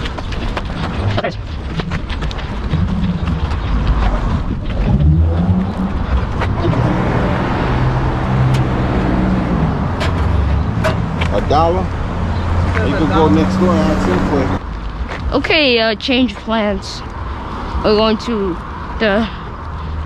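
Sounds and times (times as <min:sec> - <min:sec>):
car engine humming: 0:00.0 - 0:20.0
traffic noise: 0:00.0 - 0:20.0.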